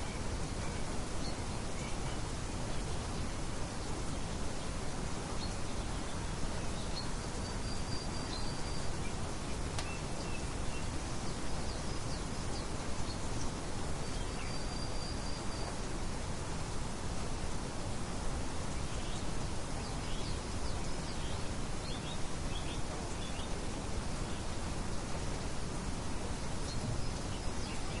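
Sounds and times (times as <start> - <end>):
birds chirping: 0.0 - 16.0, 18.7 - 28.0.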